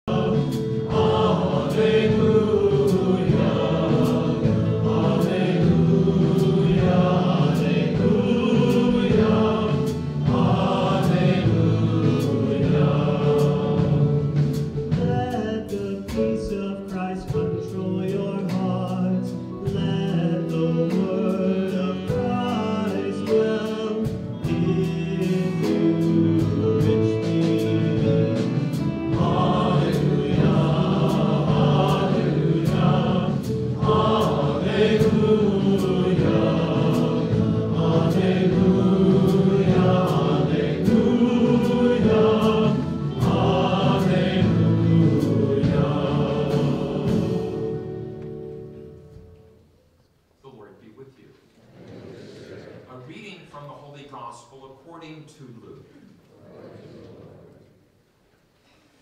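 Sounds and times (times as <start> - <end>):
church choir singing a hymn: 0.0 - 49.4, 51.6 - 53.1, 56.0 - 57.8
instrumental accompaniment: 0.0 - 50.0.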